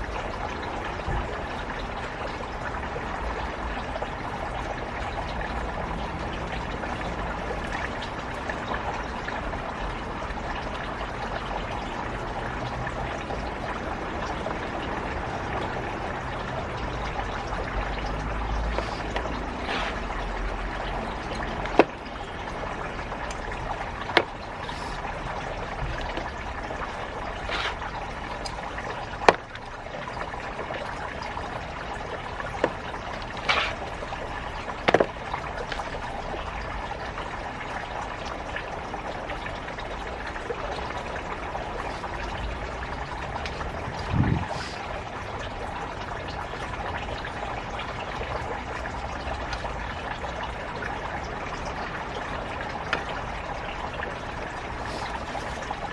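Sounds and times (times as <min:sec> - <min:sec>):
water trickling and pouring: 0:00.0 - 0:55.9.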